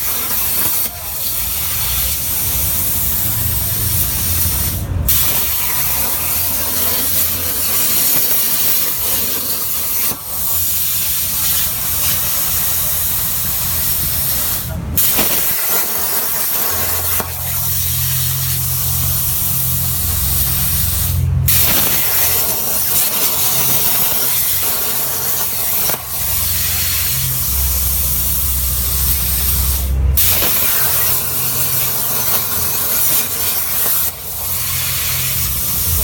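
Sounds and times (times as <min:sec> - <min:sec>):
plasma cutter hissing: 0:00.0 - 0:36.0.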